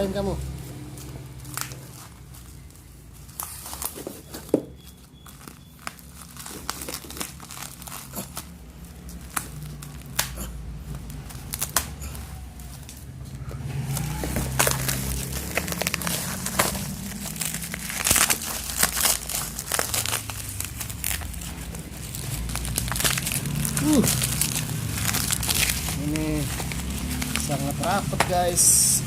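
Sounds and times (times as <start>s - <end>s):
packaging crinkling and tearing: 0.5s - 29.0s.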